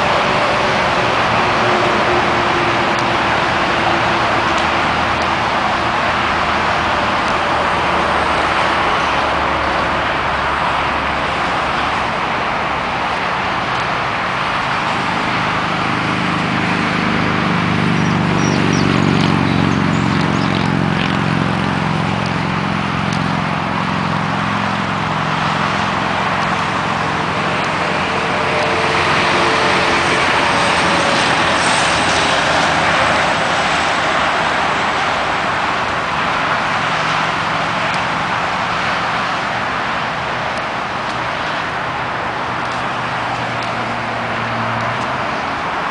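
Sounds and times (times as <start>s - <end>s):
freeway traffic roar: 0.0s - 45.9s
heavy vehicle engine hum: 0.0s - 45.9s.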